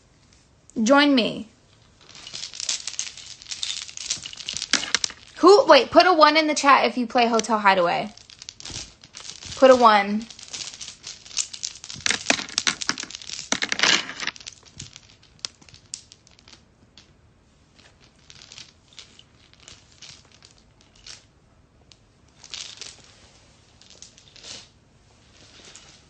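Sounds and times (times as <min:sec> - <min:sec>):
close rustling and crinkling: 0:01.6 - 0:06.1, 0:07.2 - 0:21.3, 0:22.2 - 0:26.0.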